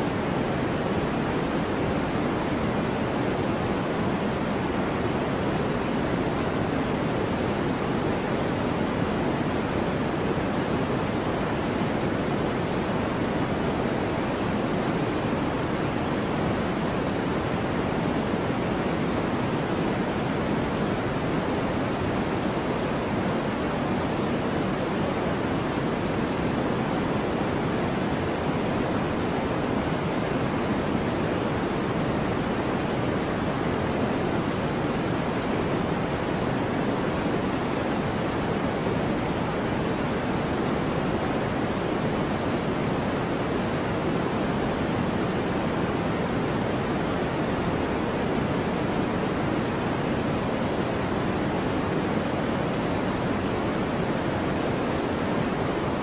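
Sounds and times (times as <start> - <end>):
low white noise rush: 0.0 - 56.0.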